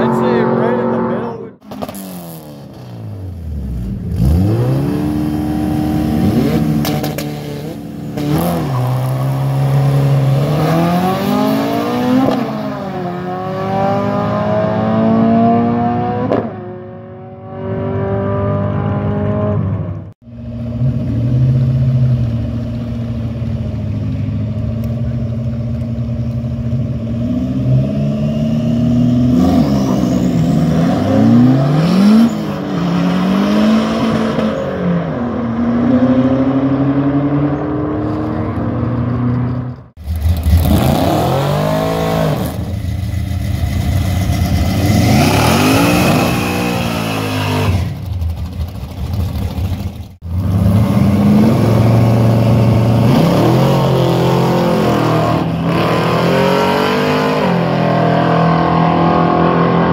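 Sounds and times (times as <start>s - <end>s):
engines revving: 0.0s - 20.0s, 26.8s - 59.9s.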